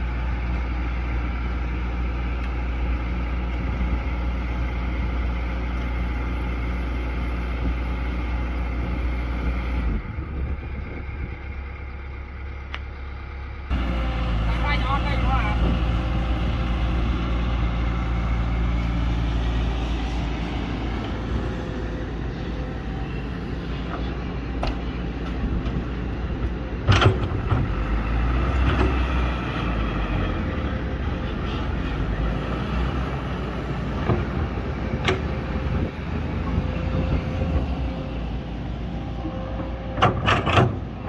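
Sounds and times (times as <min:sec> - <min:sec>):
excavator engine running: 0:00.0 - 0:41.0.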